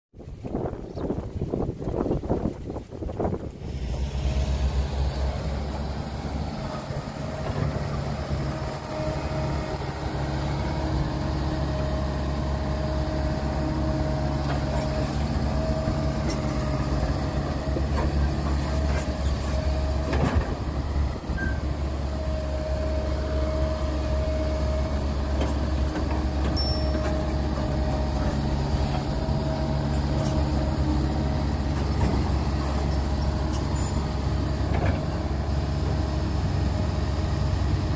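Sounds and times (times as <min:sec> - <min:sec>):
excavator diesel engine: 0:01.3 - 0:37.9.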